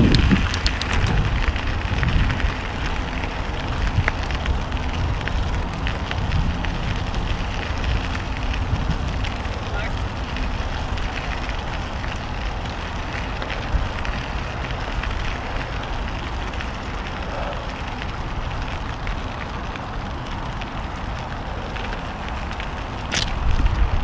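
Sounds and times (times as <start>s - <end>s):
bike tyres crunching on gravel: 0.0s - 24.0s
wind rumbling on microphone: 0.0s - 24.0s.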